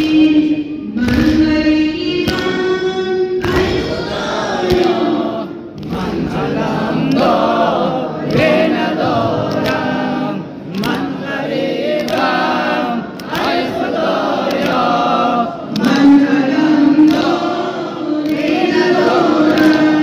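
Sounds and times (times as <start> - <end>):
group of voices chanting: 3.4 - 20.0.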